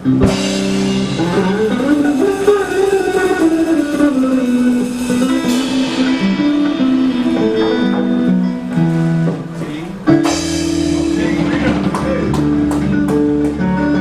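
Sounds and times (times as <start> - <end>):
blues band playing: 0.0 - 14.0
lead guitar with bent notes: 0.0 - 14.0.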